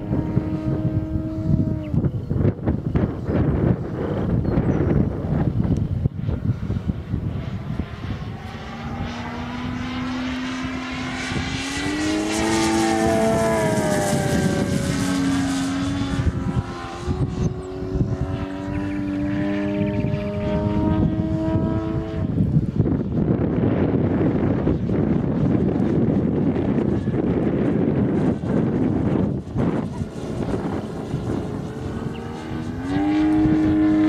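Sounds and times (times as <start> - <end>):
model plane engine buzzing: 0.0 - 34.0
wind rumble on microphone: 0.0 - 34.0.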